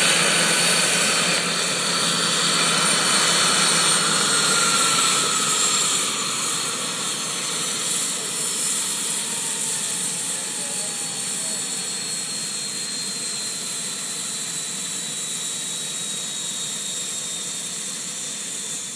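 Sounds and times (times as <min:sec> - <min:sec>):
gas turbine spooling down: 0:00.0 - 0:17.8.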